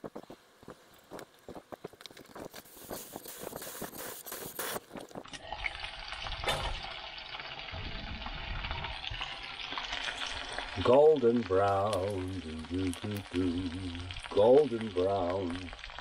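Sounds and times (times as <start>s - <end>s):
food frying in oil: 2.3s - 16.0s.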